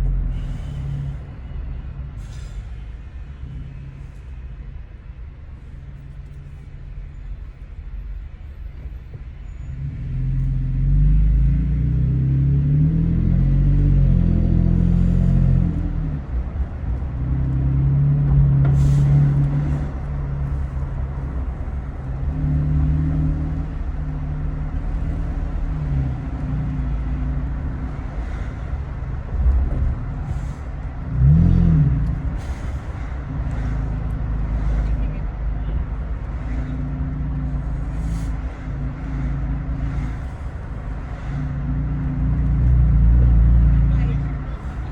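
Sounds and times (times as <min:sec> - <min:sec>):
truck exhaust drone while driving: 0:00.0 - 0:44.9.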